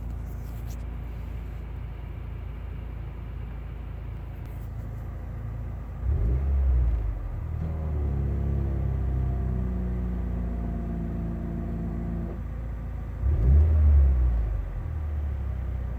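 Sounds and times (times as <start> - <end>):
car engine rumbling: 0.0 - 15.9.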